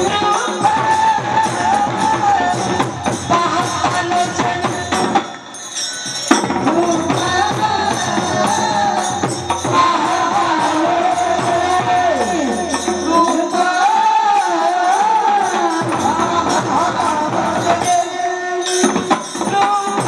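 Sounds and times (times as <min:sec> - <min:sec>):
woman singing: 0:00.0 - 0:05.2, 0:06.6 - 0:18.8
jingling percussion: 0:00.0 - 0:20.0.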